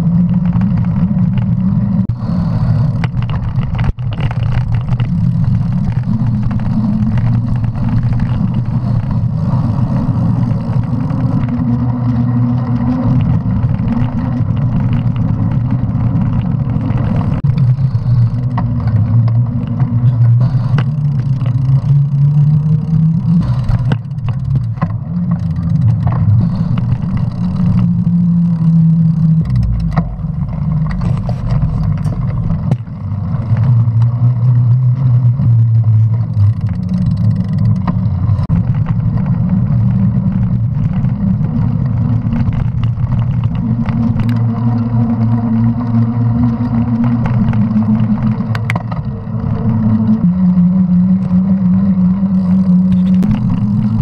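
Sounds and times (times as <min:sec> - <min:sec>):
bike tyre drone on pavement: 0:00.0 - 0:54.0
wind noise: 0:00.0 - 0:54.0.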